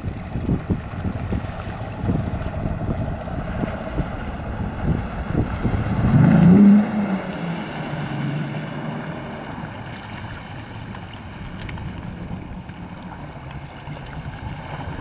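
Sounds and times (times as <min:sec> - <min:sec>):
outboard motor throttling up: 0:00.0 - 0:15.0.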